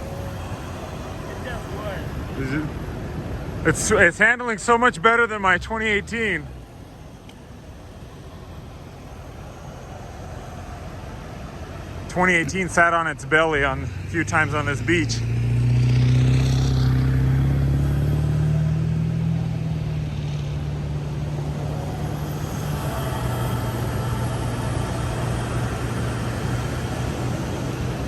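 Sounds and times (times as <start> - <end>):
diesel truck engine: 0.0 - 28.0
tyres and wind rushing: 0.0 - 28.0.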